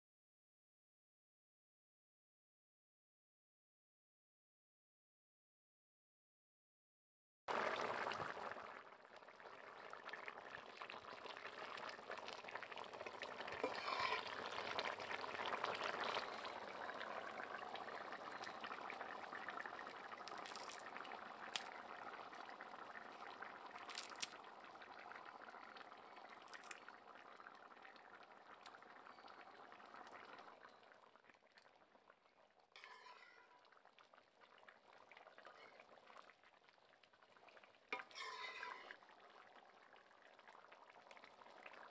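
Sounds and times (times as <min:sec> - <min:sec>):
curry bubbling at a boil: 0:07.5 - 0:41.9.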